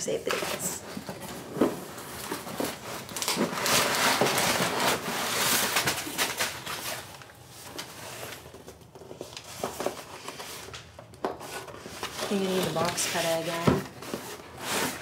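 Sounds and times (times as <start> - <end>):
packaging rustling and tearing: 0.2 - 15.0.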